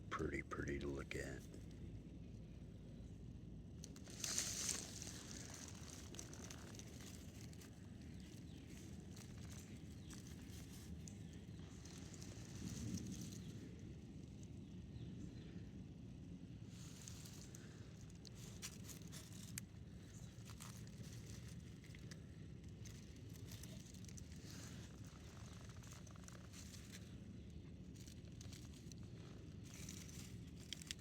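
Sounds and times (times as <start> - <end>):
faint rustling and crackling: 1.2 - 31.0.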